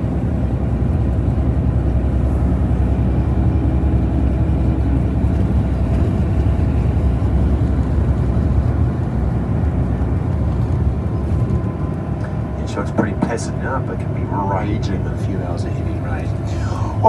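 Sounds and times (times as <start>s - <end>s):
coach engine and road noise: 0.0s - 17.0s.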